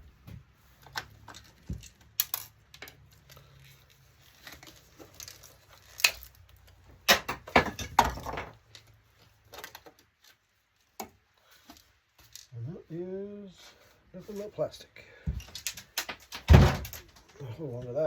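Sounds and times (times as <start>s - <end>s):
plastic parts clicking and knocking: 0.2s - 12.5s, 15.2s - 17.4s.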